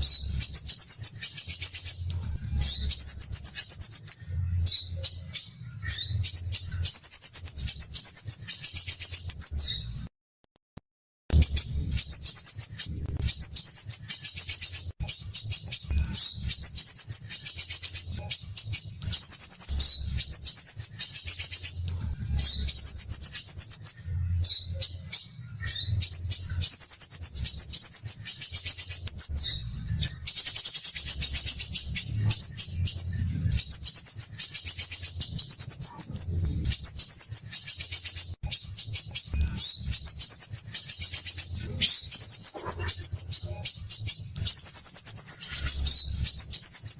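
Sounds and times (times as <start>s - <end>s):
bird singing trilled phrases: 0.0s - 10.0s, 11.3s - 46.9s.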